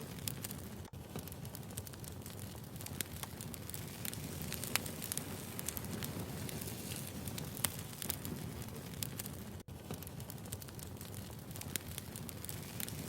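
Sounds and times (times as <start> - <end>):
low rumble of burning firewood: 0.0 - 13.0
wood fire popping and snapping: 0.0 - 13.0.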